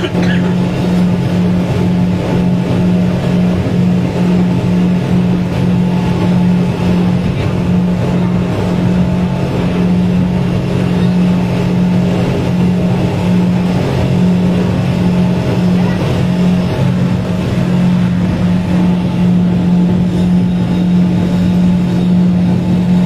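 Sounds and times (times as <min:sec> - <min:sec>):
outboard motor drone: 0:00.0 - 0:23.0.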